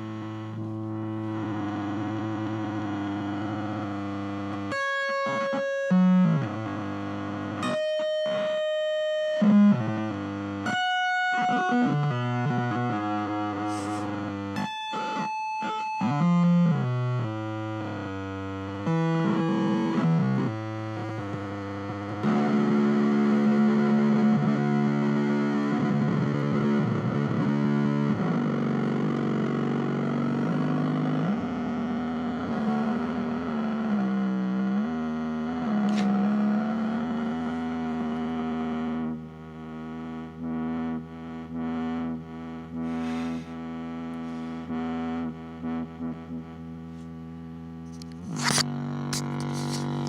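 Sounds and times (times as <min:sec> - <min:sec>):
glitchy distorted electric guitar: 0:00.0 - 0:50.0.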